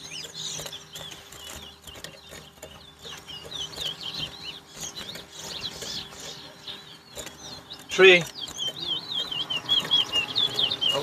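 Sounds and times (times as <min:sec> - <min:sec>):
finches singing: 0:00.0 - 0:11.0.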